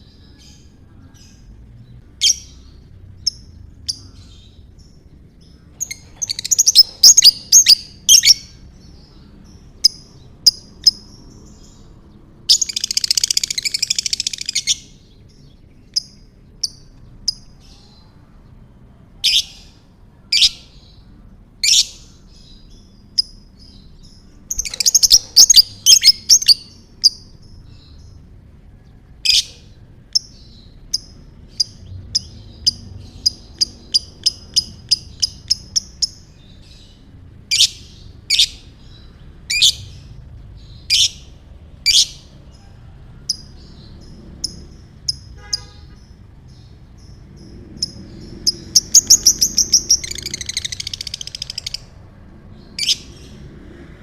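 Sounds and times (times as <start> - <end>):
lovebird chirping and squawking: 2.1 - 11.8, 12.4 - 15.1, 19.2 - 21.0, 21.6 - 28.1, 29.2 - 42.7, 43.3 - 52.0, 52.6 - 53.3.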